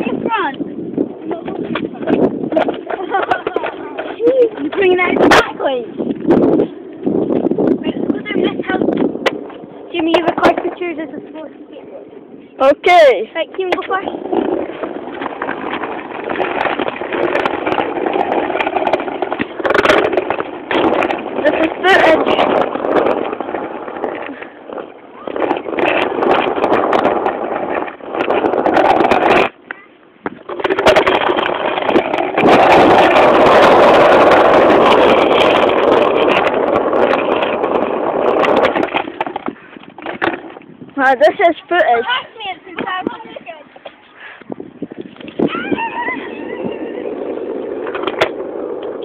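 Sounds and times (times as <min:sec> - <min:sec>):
skateboard wheels rolling on asphalt: 0:00.0 - 0:49.0.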